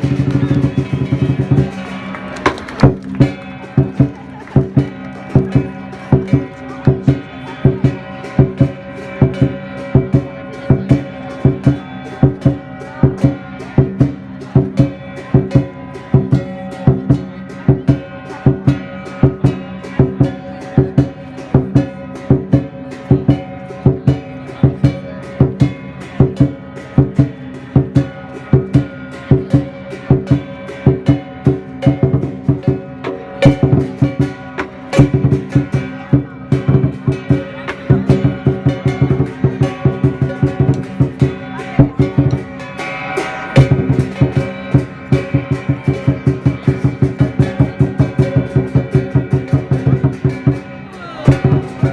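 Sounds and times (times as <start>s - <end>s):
drum strikes in a fast beat: 0.0s - 51.9s
metal percussion ringing: 0.0s - 51.9s.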